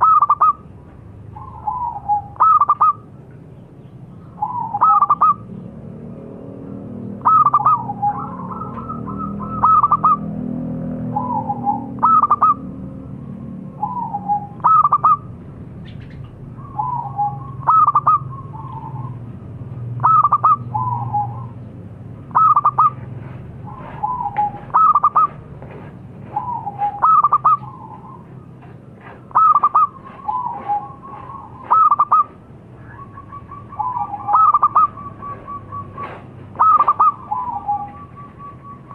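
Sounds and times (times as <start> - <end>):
dove cooing: 0.0 - 0.7, 1.3 - 3.1, 4.4 - 5.5, 7.2 - 12.7, 13.7 - 15.3, 16.1 - 19.3, 19.9 - 21.6, 22.3 - 38.9.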